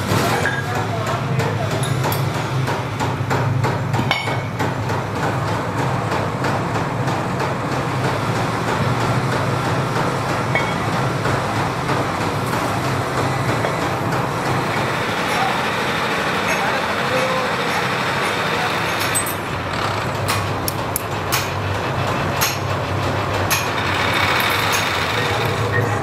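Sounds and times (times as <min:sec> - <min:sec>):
workshop machinery hum: 0:00.0 - 0:26.0.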